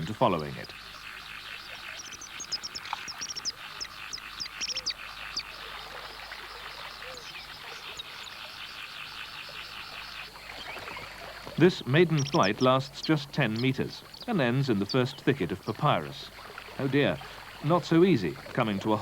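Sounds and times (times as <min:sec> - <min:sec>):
chorus of calling animals: 0:00.0 - 0:19.0.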